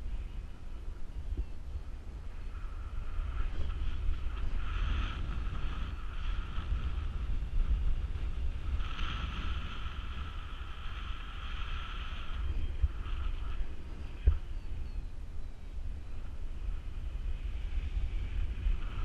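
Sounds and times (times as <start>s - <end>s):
whistling hiss: 0.0s - 19.0s
wind buffeting microphone: 0.0s - 19.0s.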